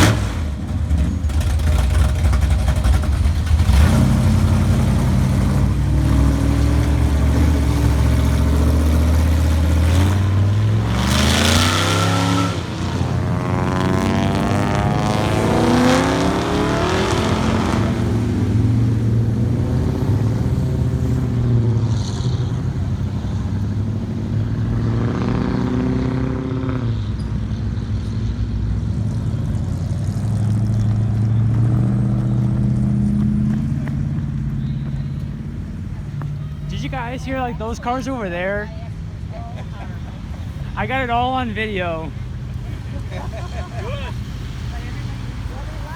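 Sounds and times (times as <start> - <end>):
car engine revving: 0.0 - 39.3.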